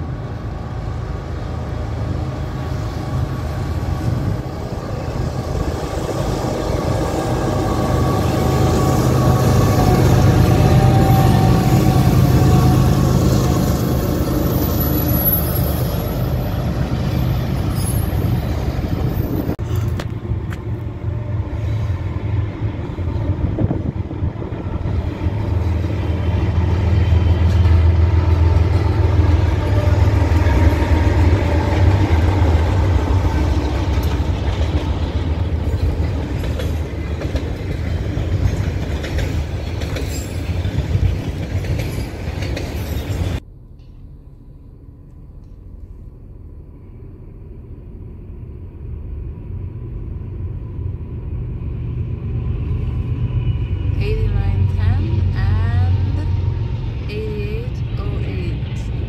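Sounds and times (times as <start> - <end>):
diesel locomotive rumble: 0.0 - 59.0
freight cars rolling: 0.0 - 59.0.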